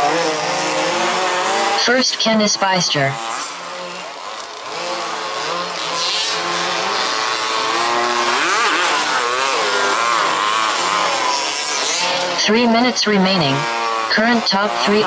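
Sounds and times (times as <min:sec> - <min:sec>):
small two-stroke engines racing: 0:00.0 - 0:15.0.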